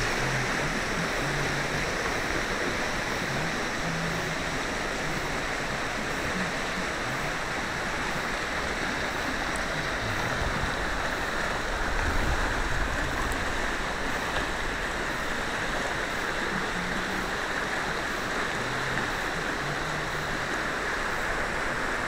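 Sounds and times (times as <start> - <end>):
stream rushing over stones: 0.0 - 22.0.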